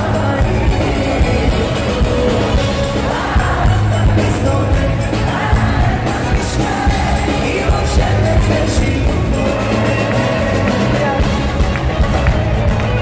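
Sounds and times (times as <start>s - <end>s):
man singing: 0.0s - 12.0s
live pop band playing: 0.0s - 13.0s
steady drum beat: 0.0s - 13.0s.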